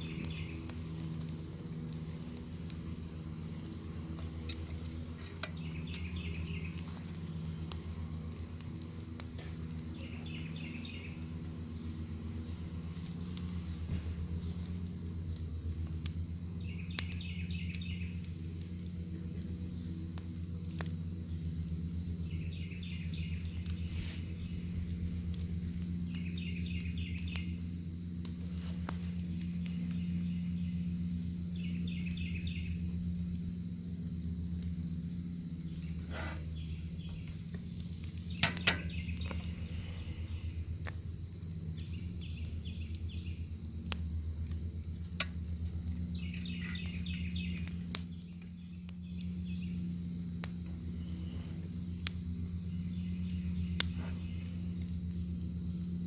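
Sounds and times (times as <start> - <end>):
fire crackling and popping: 0.0 - 56.0
insect trilling: 0.0 - 56.0.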